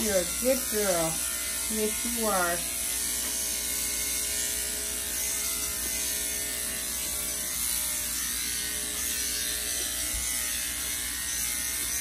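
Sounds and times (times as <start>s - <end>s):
electric clippers running: 0.0s - 12.0s.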